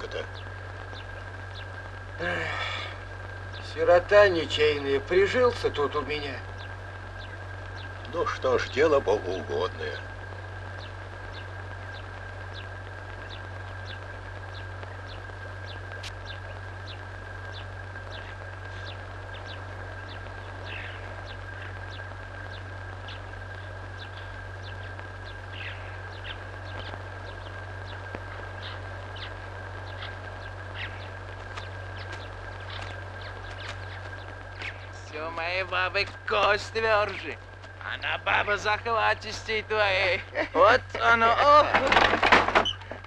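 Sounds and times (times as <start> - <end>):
small bird chirping: 0.0 - 1.9, 2.6 - 40.2
steady low hum: 0.0 - 43.0
thin steady whine: 0.0 - 43.0.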